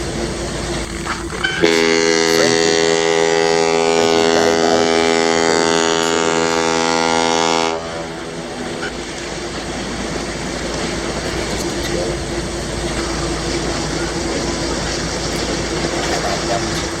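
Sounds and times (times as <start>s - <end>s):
low background rumble: 0.0s - 17.0s
ship's horn blast: 1.2s - 17.0s.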